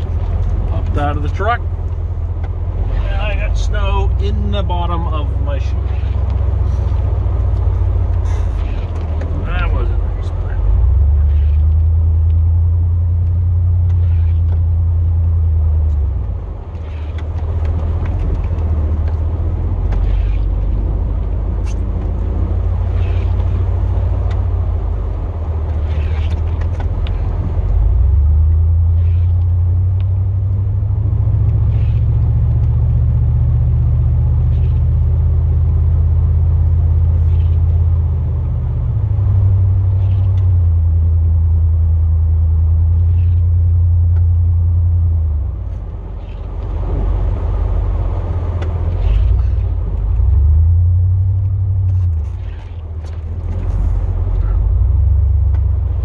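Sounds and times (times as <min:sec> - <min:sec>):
rumble of truck moving: 0:00.0 - 0:56.0
truck engine droning under load: 0:00.0 - 0:56.0.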